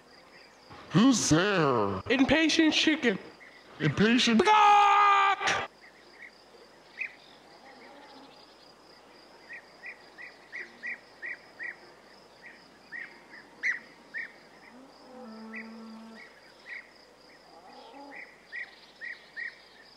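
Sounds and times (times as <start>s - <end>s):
crickets chirping: 0.0s - 19.9s.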